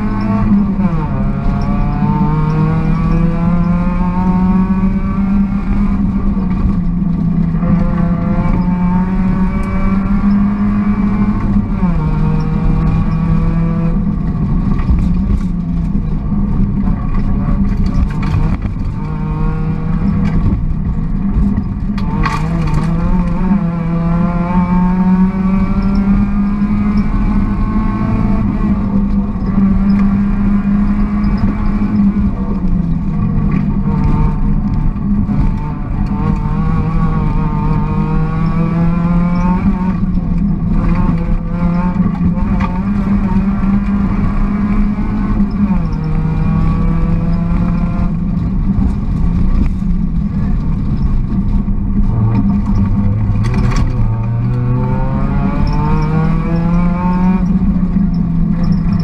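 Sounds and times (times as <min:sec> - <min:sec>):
rally car engine revving: 0:00.0 - 0:59.0
road noise: 0:00.0 - 0:59.0.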